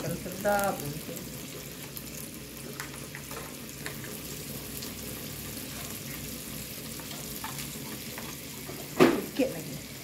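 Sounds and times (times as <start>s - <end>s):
butter sizzling in wok: 0.0s - 10.0s.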